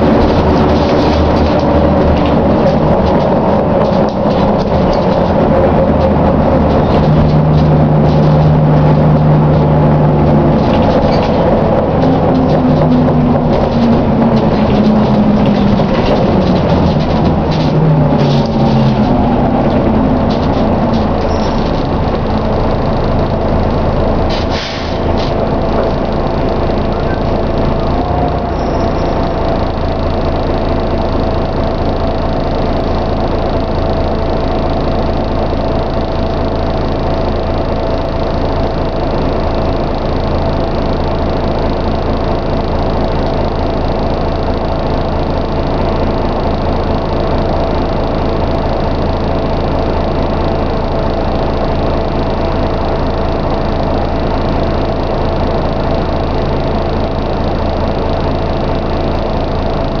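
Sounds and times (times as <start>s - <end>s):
bus engine drone: 0.0s - 60.0s.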